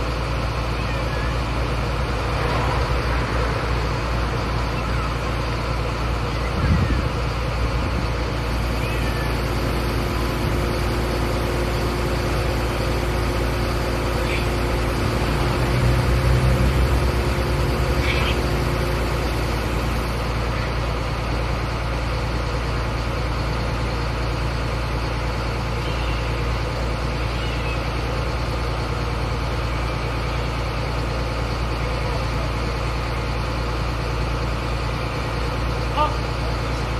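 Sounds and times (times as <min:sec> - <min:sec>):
fire truck engine idling: 0:00.0 - 0:36.9.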